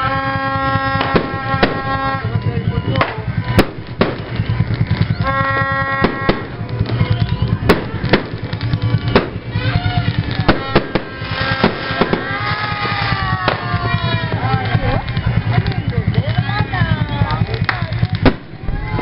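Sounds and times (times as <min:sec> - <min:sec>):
fireworks bangs: 0:00.0 - 0:19.0
voices: 0:00.0 - 0:19.0.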